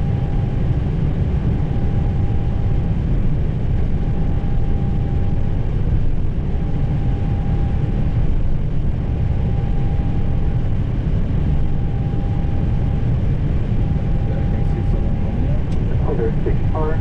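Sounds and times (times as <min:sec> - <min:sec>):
cockpit low rumble: 0:00.0 - 0:17.0.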